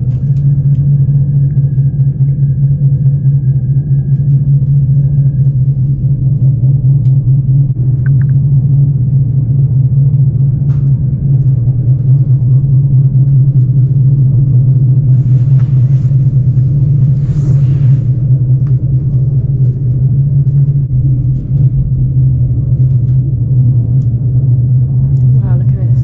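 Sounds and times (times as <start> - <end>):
train rumble from inside: 0.0 - 26.0.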